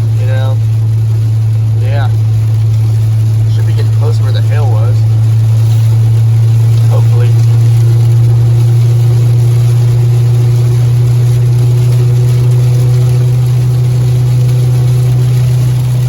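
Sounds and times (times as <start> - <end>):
faint steady whine: 0.0 - 16.0
pickup truck driving: 0.0 - 16.0.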